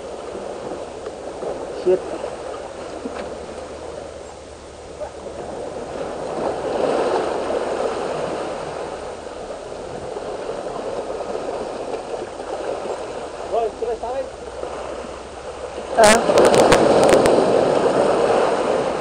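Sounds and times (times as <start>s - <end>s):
seawater surging between boulders: 0.0s - 19.0s.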